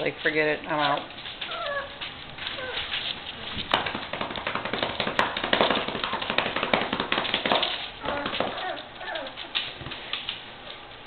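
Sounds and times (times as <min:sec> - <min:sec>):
puppies scrambling on blanket and paper: 0:00.0 - 0:11.0.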